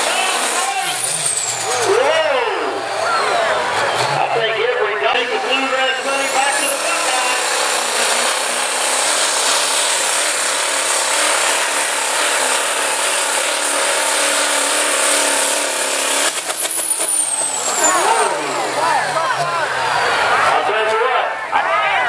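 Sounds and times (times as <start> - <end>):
engine cracks off throttle: 0.0 - 21.2
pulling truck engine at full throttle: 0.0 - 22.0.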